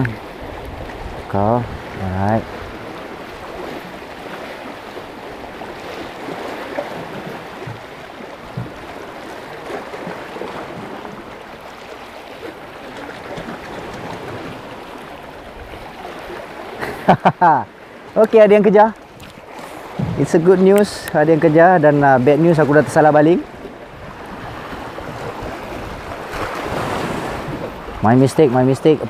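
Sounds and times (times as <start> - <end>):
waves splashing against boulders: 0.0 - 29.0.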